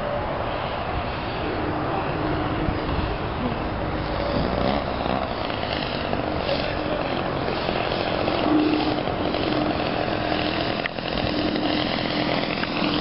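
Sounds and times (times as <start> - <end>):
model plane engine running: 1.0 - 13.0.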